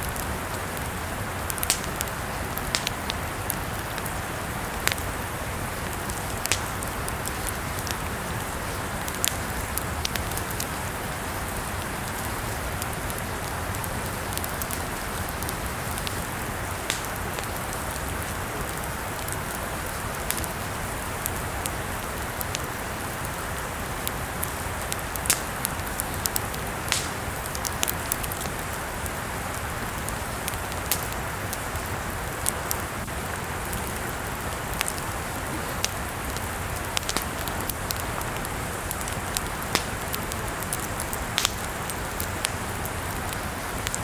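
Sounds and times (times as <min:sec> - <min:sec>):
hiss of flames: 0:00.0 - 0:44.0
wood crackling and popping: 0:00.0 - 0:44.0.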